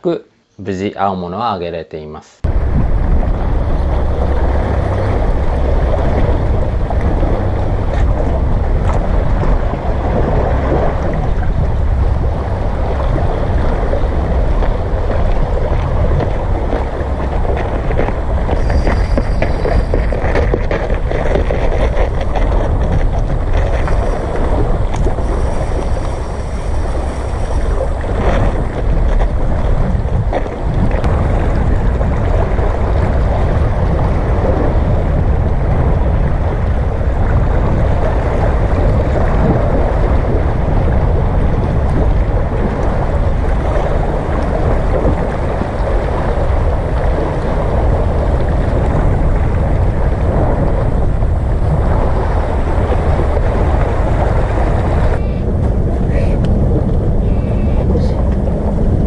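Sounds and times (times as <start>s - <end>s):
wind buffeting microphone: 2.4s - 59.0s
seawater washing against rocks: 2.5s - 59.0s.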